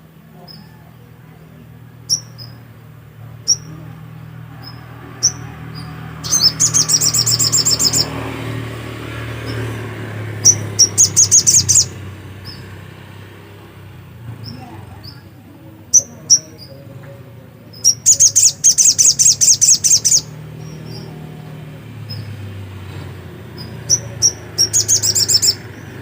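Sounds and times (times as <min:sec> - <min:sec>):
bird chirps and trills: 0:00.4 - 0:26.0.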